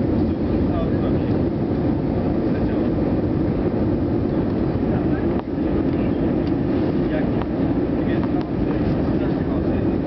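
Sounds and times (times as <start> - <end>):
airplane engine drone in cabin: 0.0 - 10.0.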